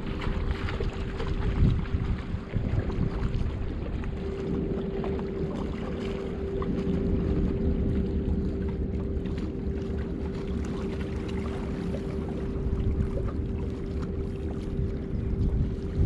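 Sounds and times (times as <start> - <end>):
steady low hum: 0.0 - 16.0
wind rumbling on microphone: 0.0 - 16.0.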